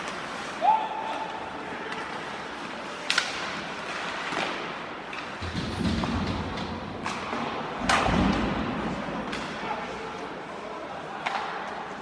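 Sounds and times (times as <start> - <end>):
arena hubbub: 0.0 - 12.0.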